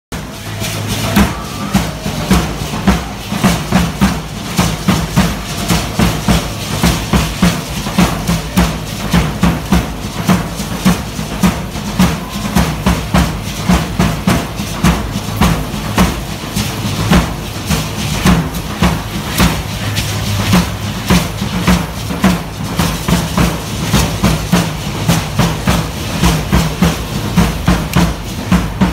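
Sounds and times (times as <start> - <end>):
drums beating steady pulse: 0.1 - 28.9
gourd rattles shaking: 0.2 - 28.9.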